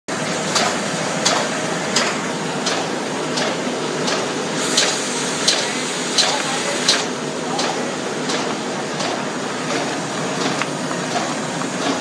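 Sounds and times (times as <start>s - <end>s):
steady mechanical noise: 0.1s - 12.0s.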